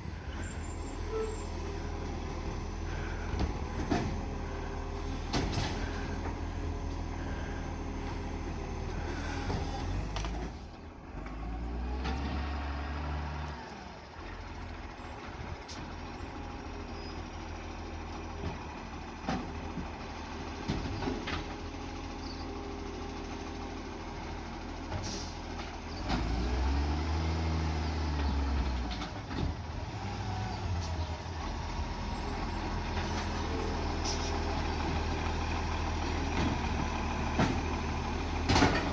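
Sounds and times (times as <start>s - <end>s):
garbage truck diesel engine revving: 0.0s - 38.9s.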